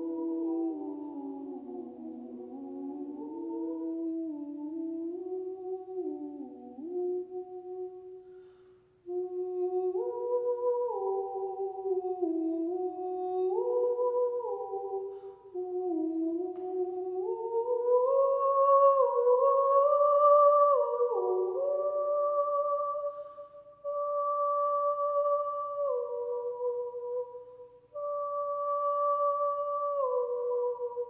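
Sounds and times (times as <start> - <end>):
person humming melody: 0.0 - 31.0.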